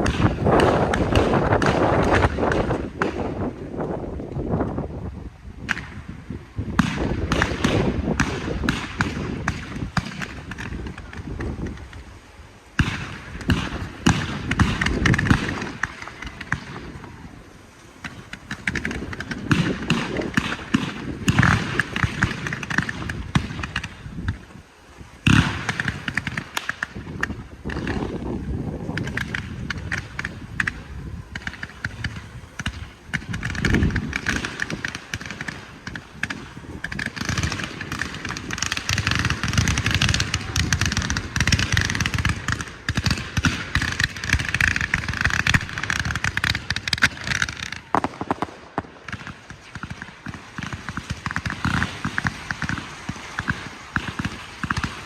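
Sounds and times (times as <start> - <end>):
fireworks launch thuds: 0.0 - 4.0, 12.8 - 17.3, 18.0 - 24.6, 25.2 - 55.0
fireworks crackling and popping: 0.0 - 55.0.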